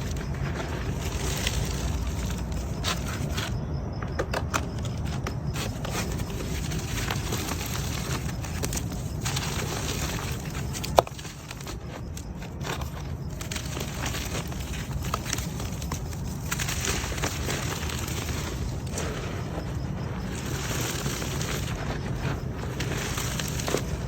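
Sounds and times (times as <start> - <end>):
dried mud and concrete crumbling: 0.0 - 24.0.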